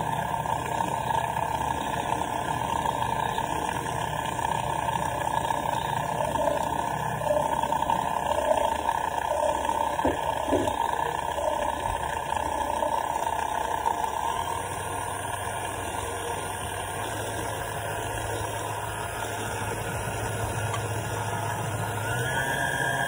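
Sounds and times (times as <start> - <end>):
electric mixer motor humming: 0.0 - 23.0.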